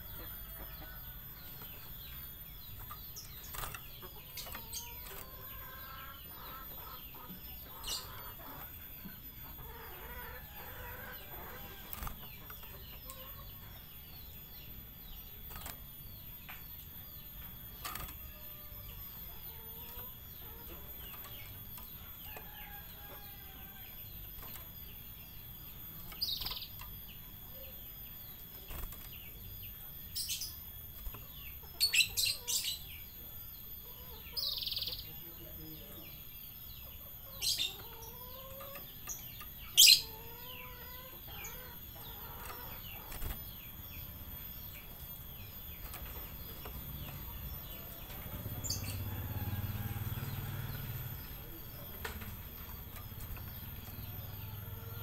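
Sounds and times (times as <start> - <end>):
canary chirping: 0.0 - 55.0.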